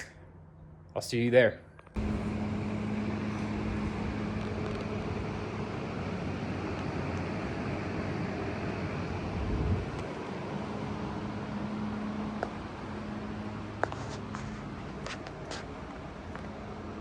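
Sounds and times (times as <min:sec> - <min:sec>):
car road and engine noise: 0:01.9 - 0:17.0.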